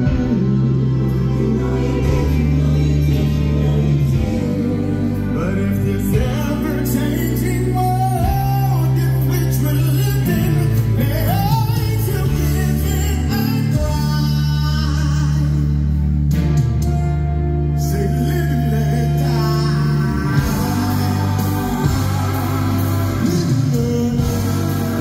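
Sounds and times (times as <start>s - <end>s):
person singing: 0.0s - 16.0s, 17.7s - 25.0s.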